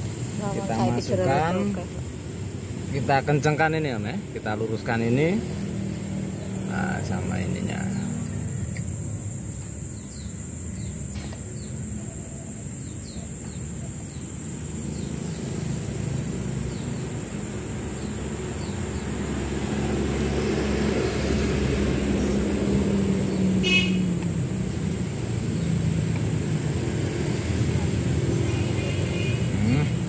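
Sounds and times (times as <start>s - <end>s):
vehicle engine rumbling: 0.0s - 12.0s, 12.7s - 30.0s.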